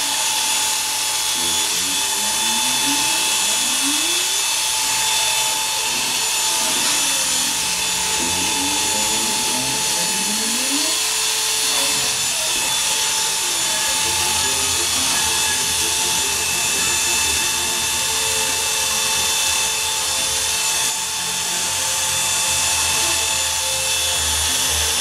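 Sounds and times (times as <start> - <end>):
electric hair clippers buzzing: 0.0 - 25.0.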